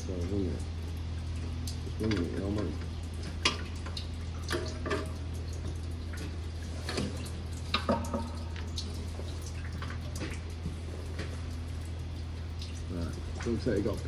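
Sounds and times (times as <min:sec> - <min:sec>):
fuel drops ticking: 0:00.0 - 0:14.0
steady low hum: 0:00.0 - 0:14.0.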